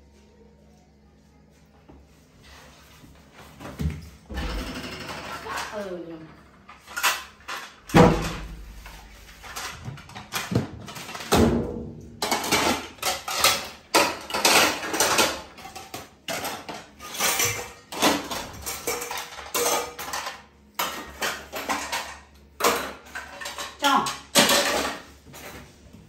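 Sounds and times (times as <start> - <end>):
dishes clattering and knocking: 3.6 - 5.9, 6.6 - 26.0.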